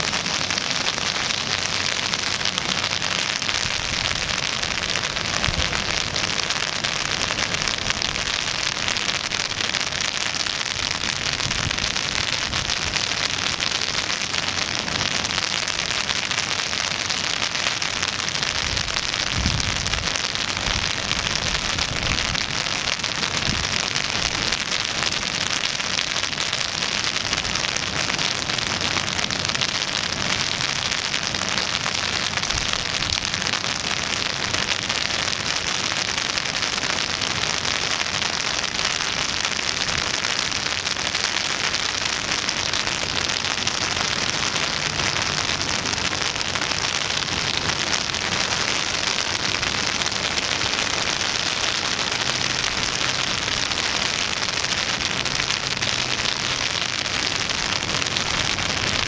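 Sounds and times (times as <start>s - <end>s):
rain on wet pavement: 0.0s - 59.0s.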